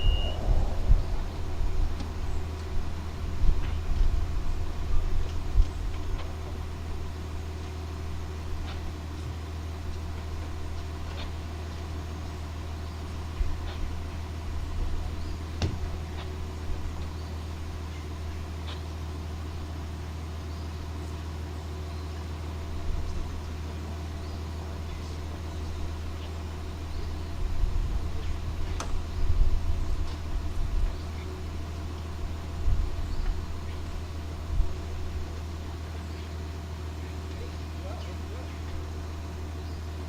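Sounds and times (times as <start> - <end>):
low engine hum: 0.0 - 40.0.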